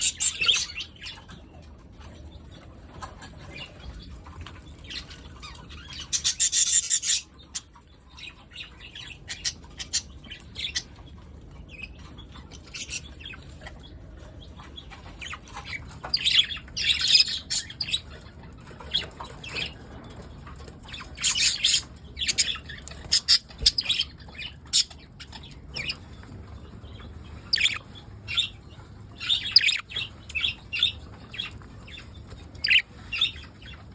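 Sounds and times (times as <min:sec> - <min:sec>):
budgerigars chirping: 0:00.0 - 0:01.6, 0:02.9 - 0:33.9.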